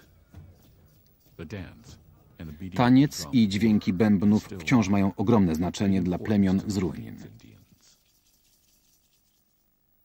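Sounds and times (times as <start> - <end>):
faint hiss and hum: 0.0 - 10.0.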